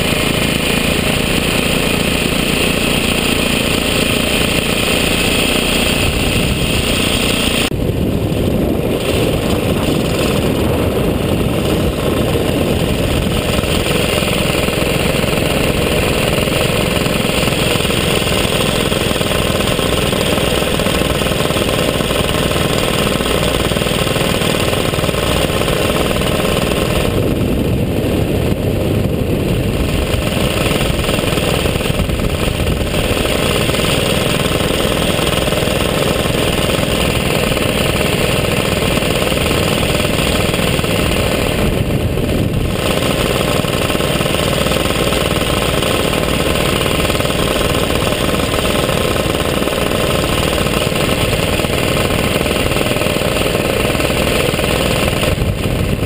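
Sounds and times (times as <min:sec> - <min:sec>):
paramotor engine running: 0:00.0 - 0:56.0.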